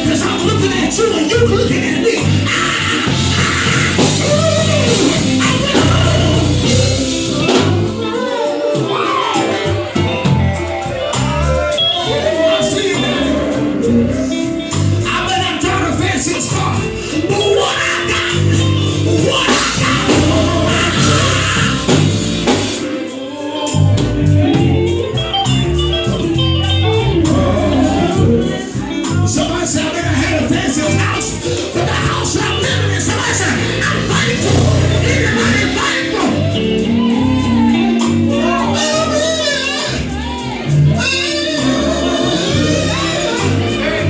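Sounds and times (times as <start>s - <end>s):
person singing: 0.0s - 22.1s, 26.8s - 44.0s
gospel band playing: 0.0s - 44.0s.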